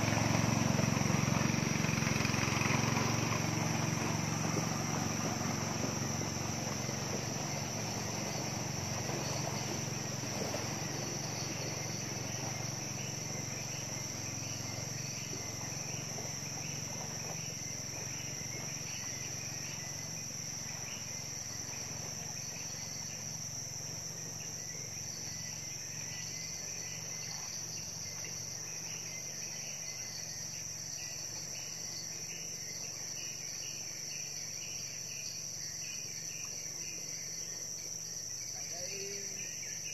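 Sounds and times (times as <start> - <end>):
boat motor: 0.0 - 39.9
insects chirring: 0.0 - 39.9
pulsing insect call: 0.0 - 39.9.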